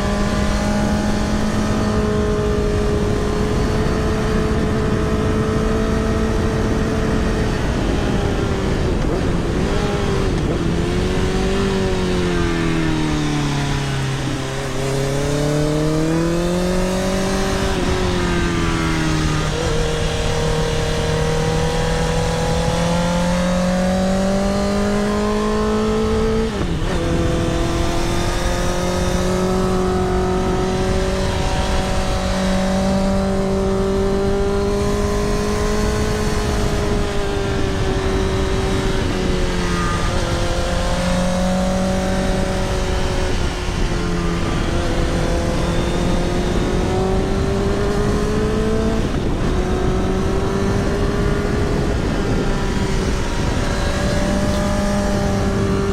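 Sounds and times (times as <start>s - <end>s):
motorcycle engine cruising: 0.0s - 55.9s
wind rumble on microphone: 0.0s - 55.9s.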